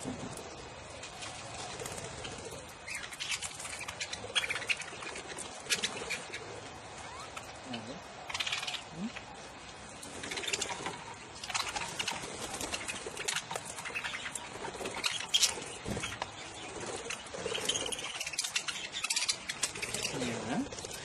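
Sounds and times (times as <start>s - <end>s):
budgerigars chirping and chattering: 0.0s - 21.0s
wings flapping: 0.0s - 21.0s.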